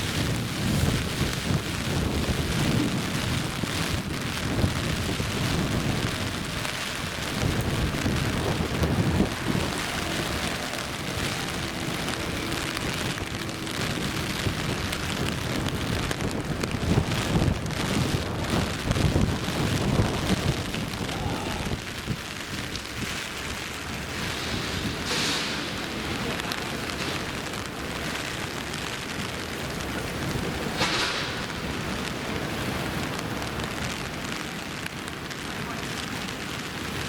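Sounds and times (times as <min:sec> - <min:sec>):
low rumble: 0:00.0 - 0:34.2
rain falling and splashing: 0:00.0 - 0:37.0.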